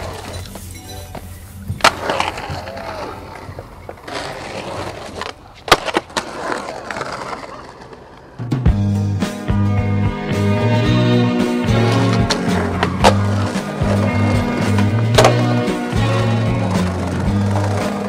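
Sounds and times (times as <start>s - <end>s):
skateboard clacking: 0.0s - 8.8s, 11.4s - 18.0s
skateboard wheels rolling on concrete: 0.0s - 18.0s.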